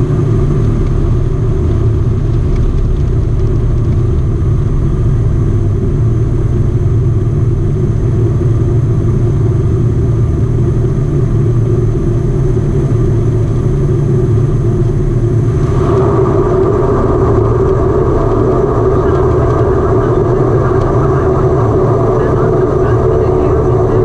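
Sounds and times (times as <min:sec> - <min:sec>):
mid-pitched hum: 0:00.0 - 0:24.0
turboprop engines droning: 0:00.0 - 0:24.0.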